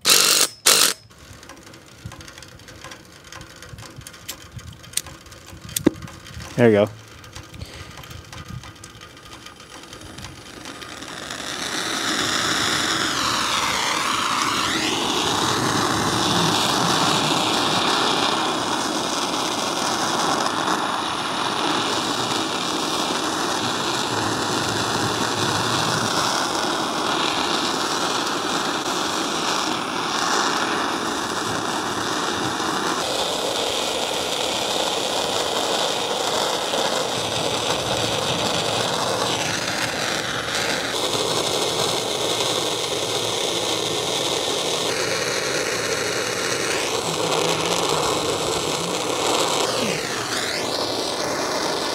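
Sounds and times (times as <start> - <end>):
gas torch flame hissing: 3.5 - 51.9.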